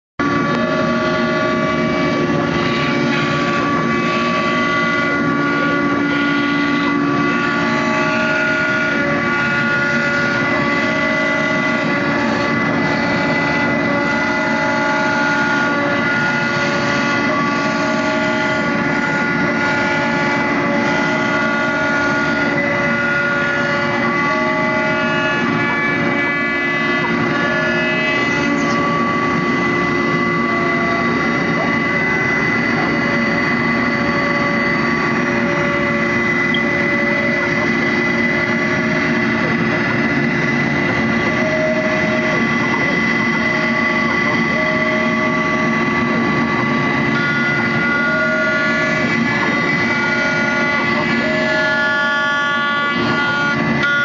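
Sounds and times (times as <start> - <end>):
cnc router whine: 0.2 - 54.0.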